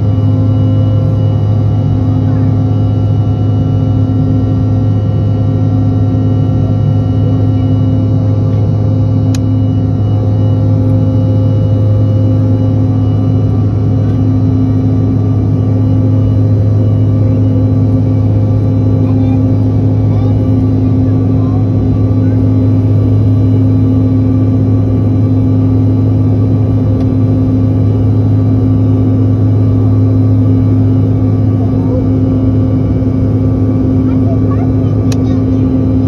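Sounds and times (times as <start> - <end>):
jet engines droning in cabin: 0.0 - 36.0.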